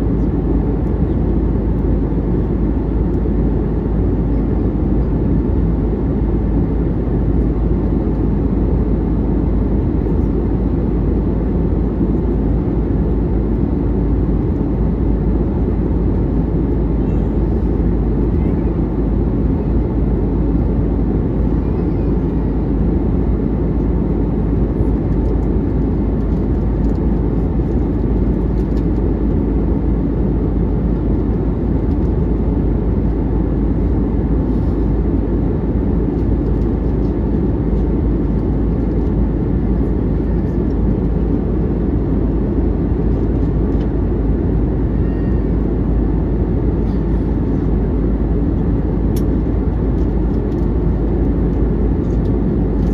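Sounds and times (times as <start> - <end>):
jet cabin engine rush: 0.0 - 52.9.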